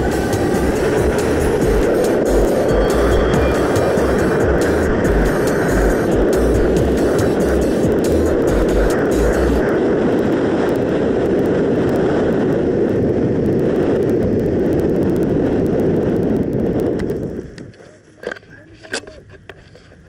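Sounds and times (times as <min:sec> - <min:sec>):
air rushing over microphone: 0:00.0 - 0:17.6.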